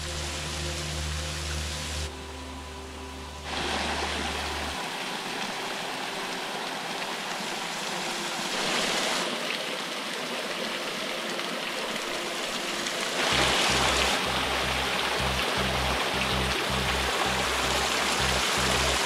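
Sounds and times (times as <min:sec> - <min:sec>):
faint background music: 0:00.0 - 0:19.0
waterfall rushing: 0:03.4 - 0:19.0.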